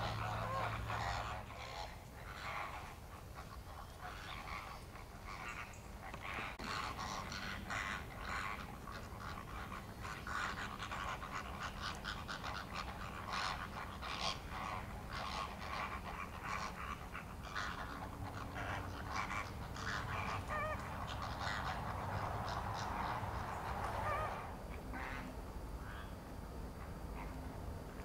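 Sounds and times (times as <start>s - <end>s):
flock of waterbirds calling: 0.0s - 26.2s.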